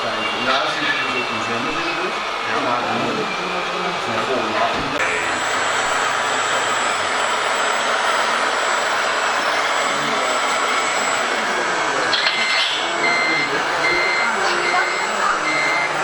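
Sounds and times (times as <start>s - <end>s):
model machines whirring: 0.0s - 16.0s
reversing beeper: 0.0s - 16.0s.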